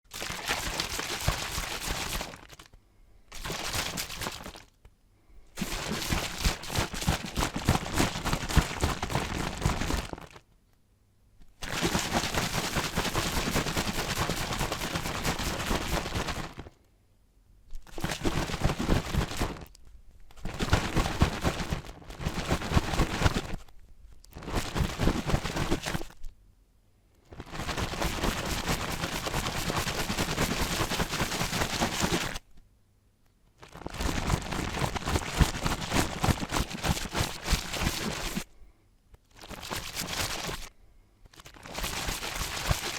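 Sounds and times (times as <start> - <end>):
water sloshing in shaken bottle: 0.1 - 4.8, 5.6 - 10.4, 11.5 - 16.7, 17.8 - 26.2, 27.4 - 32.5, 33.6 - 38.5, 39.3 - 40.7, 41.3 - 42.9.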